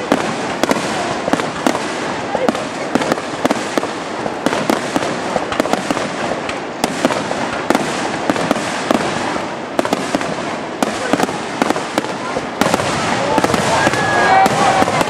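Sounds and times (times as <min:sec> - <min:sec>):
fireworks crackle and hiss: 0:00.0 - 0:15.0.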